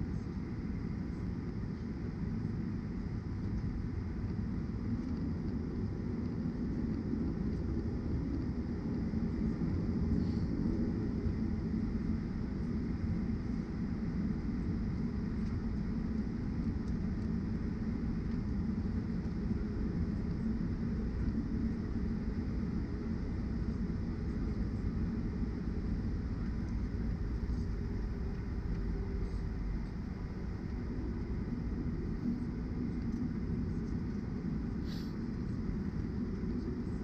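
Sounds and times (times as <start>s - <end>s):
aircraft engine rumble: 0.0s - 37.0s
faint high whine: 0.0s - 37.0s.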